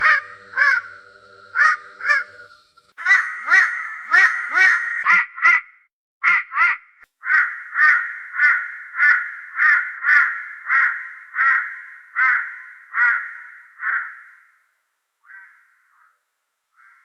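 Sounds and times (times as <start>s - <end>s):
raven calling: 0.0s - 17.0s.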